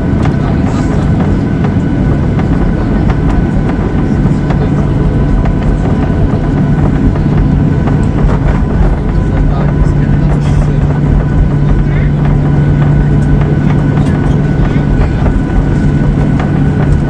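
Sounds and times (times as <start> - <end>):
airliner cabin rumble: 0.0 - 17.0
faint steady whine: 0.0 - 17.0.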